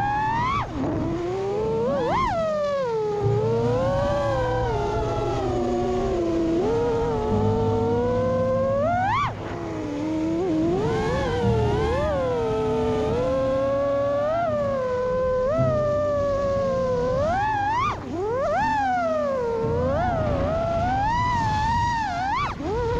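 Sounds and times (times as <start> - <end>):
quadcopter motors whining: 0.0 - 22.9.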